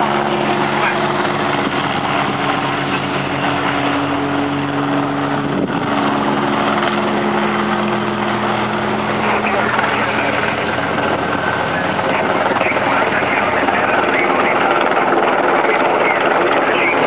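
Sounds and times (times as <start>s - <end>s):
car and motorcycle engines passing: 0.0s - 14.3s.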